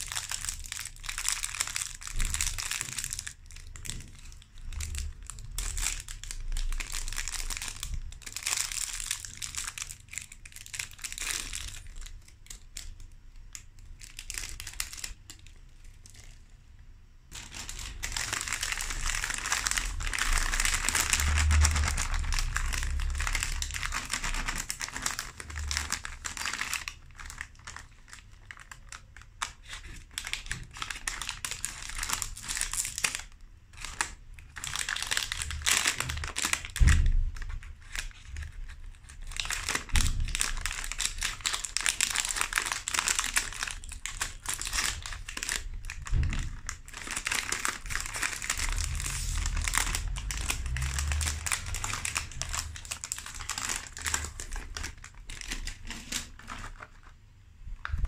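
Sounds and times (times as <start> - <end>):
plastic wrapper crinkling: 0.0 - 58.0.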